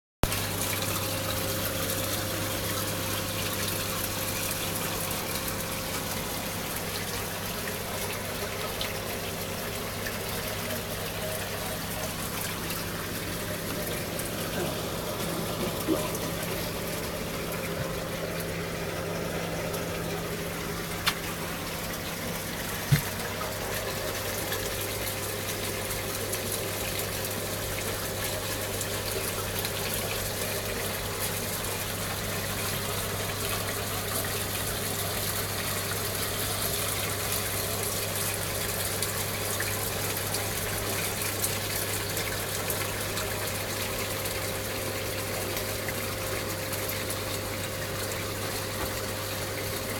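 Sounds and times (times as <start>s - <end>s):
circulating water rushing: 0.2s - 49.9s
low pump hum: 0.2s - 49.9s.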